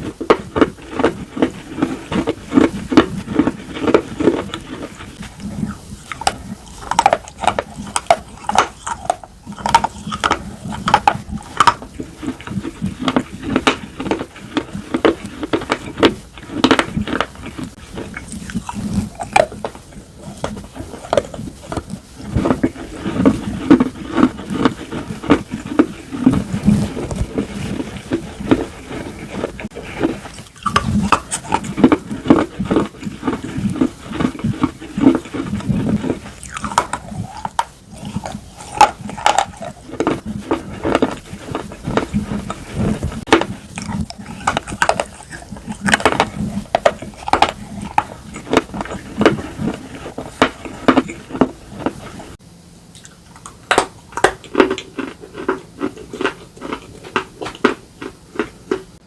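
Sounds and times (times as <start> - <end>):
biting and chewing slate: 0.0 - 52.4, 53.0 - 59.0.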